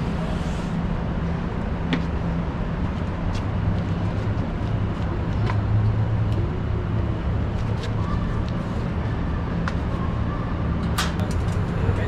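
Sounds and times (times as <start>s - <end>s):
low mechanical rumble and hum: 0.0s - 12.0s.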